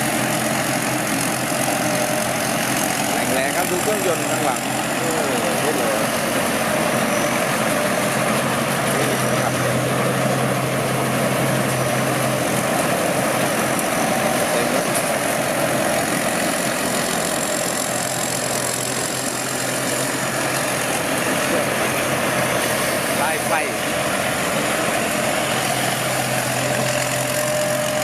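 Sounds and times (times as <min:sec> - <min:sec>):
combine harvester diesel engine: 0:00.0 - 0:28.0.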